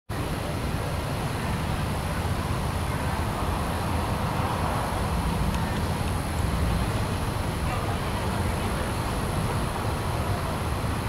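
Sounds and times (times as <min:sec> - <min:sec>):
distant diesel locomotive rumble: 0:00.2 - 0:11.0.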